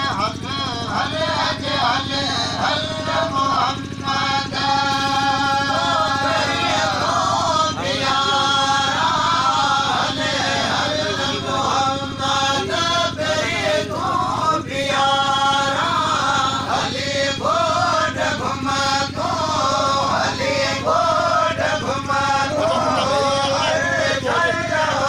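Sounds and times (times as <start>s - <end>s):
man singing through loudspeaker: 0.0s - 25.0s
steady low hum: 0.0s - 25.0s.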